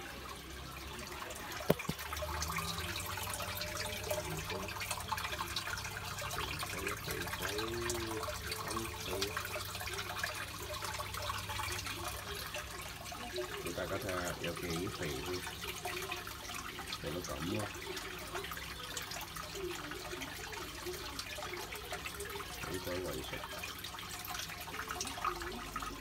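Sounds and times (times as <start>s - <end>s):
water trickling and bubbling: 0.0s - 26.0s.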